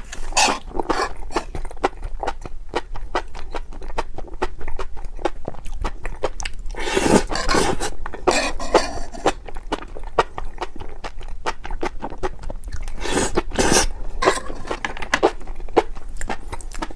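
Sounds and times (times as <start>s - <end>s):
person crunching food: 0.0s - 16.9s.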